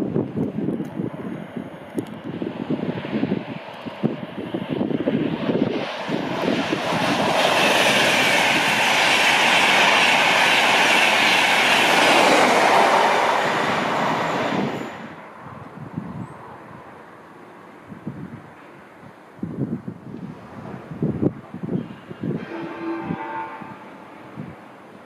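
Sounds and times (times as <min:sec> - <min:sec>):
wind buffeting microphone: 0:00.0 - 0:16.9, 0:17.8 - 0:24.7
train passing: 0:00.0 - 0:25.0.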